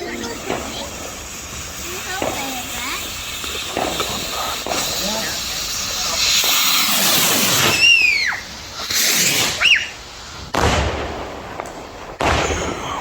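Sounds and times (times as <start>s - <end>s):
falling firework whistles: 0.0s - 13.0s
firework bang: 0.0s - 13.0s
fireworks hissing spray: 0.0s - 13.0s.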